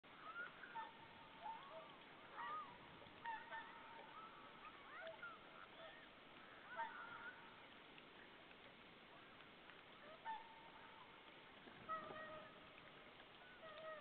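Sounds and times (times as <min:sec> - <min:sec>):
swans honking: 0:00.1 - 0:07.8, 0:09.1 - 0:14.0.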